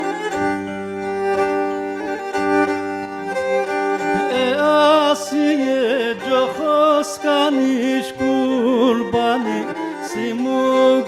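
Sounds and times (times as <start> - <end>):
bowed strings playing held notes: 0.0 - 11.0
wavering melody with vibrato: 0.0 - 11.0.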